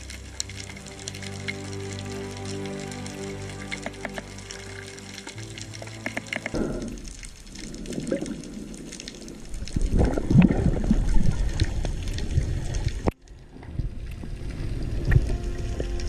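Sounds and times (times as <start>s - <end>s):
underwater swirling and bubbling: 0.0s - 16.0s.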